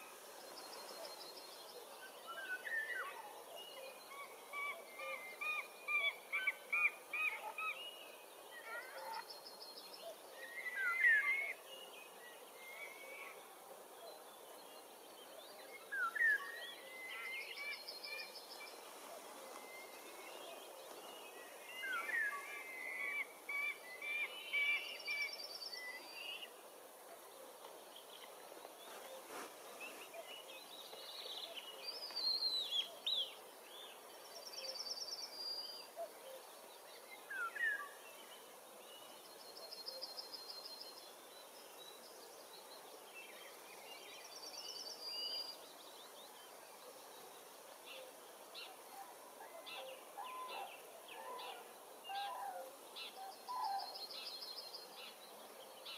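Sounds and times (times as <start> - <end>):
faint outdoor background: 0.0 - 55.9
wild birds singing: 0.0 - 55.9.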